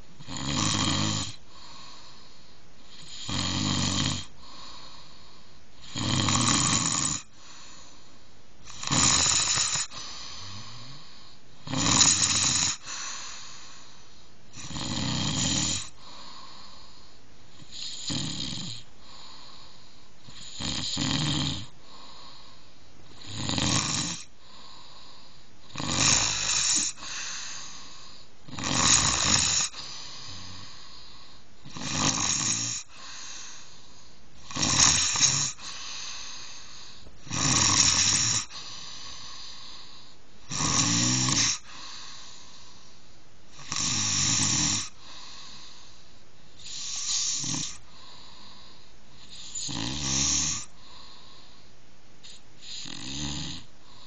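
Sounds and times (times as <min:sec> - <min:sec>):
person snoring: 0:00.0 - 0:08.0, 0:08.7 - 0:46.0, 0:46.6 - 0:51.6, 0:52.2 - 0:54.0.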